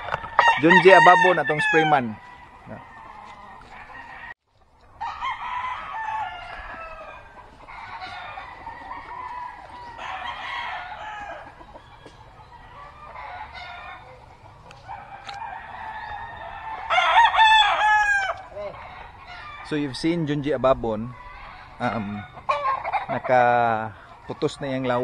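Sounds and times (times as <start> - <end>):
roosters crowing: 0.0 - 25.0.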